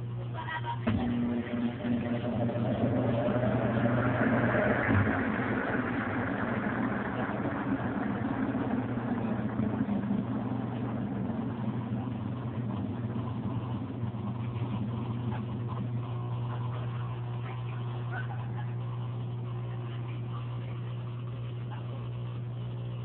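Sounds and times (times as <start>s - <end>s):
washing machine running: 0.0s - 23.0s.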